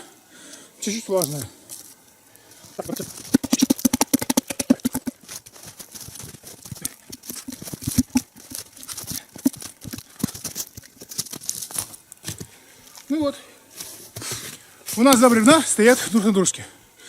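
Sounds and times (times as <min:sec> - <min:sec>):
logs knocking and snow crunching: 0:02.5 - 0:16.2.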